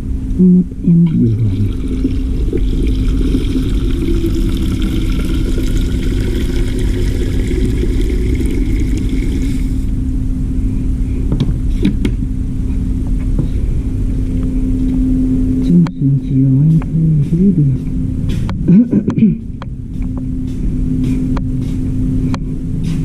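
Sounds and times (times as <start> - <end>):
machine rumbling and humming: 0.0 - 23.0.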